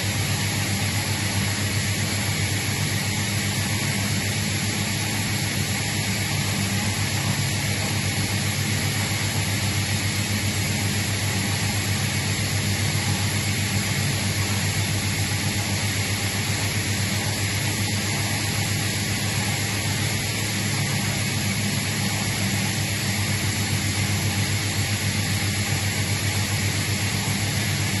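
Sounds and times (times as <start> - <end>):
air compressor humming: 0.0 - 28.0.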